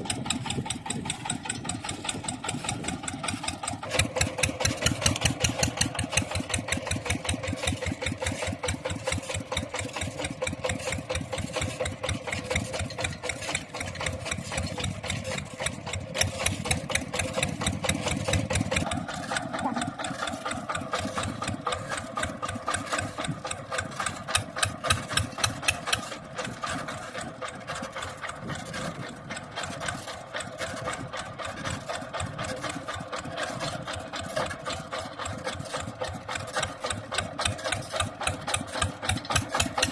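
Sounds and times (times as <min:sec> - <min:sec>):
mini tractor engine running: 0:00.0 - 0:39.9.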